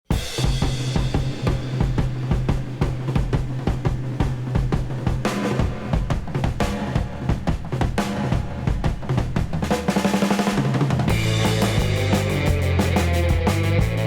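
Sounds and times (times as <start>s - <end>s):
drum-led rock music: 0.0s - 14.0s
drum roll: 0.1s - 14.0s.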